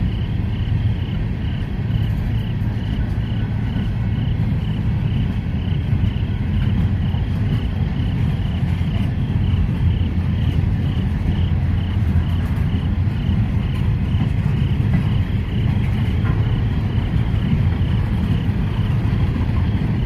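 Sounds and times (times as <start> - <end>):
freight train wheels rumbling on rail: 0.0 - 20.0
insects chirping: 0.0 - 20.0.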